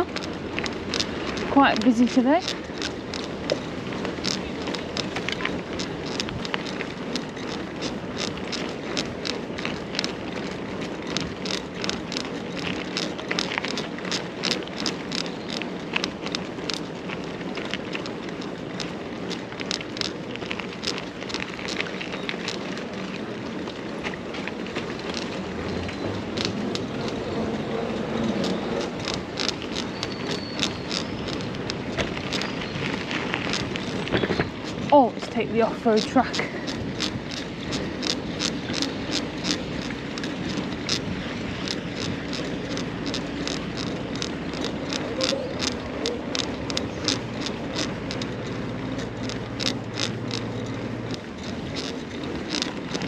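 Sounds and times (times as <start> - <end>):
bike rattling clicks: 0.0 - 53.0
tyre and wind noise: 0.0 - 53.0.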